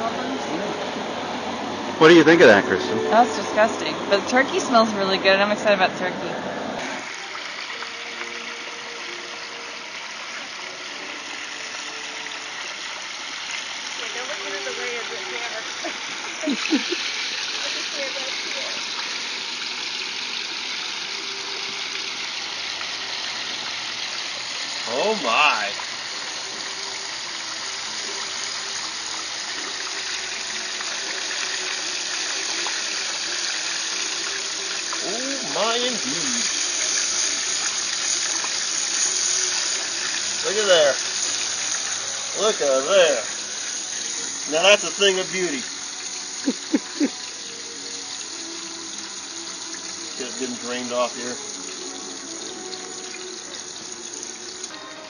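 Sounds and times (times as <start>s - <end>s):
oil bubbling and hissing: 6.6s - 55.0s.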